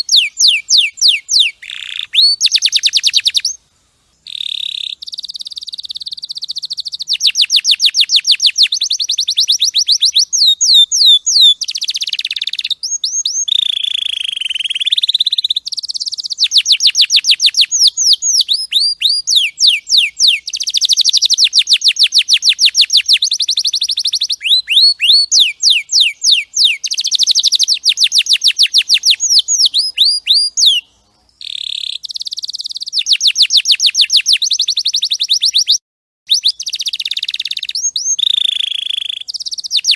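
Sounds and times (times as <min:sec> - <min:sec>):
canary singing trills: 0:00.0 - 0:03.6, 0:04.2 - 0:39.9.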